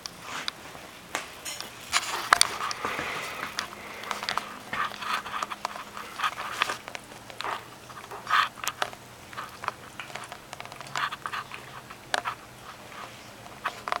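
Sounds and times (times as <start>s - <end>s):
puppy crunching chew: 1.5s - 14.0s.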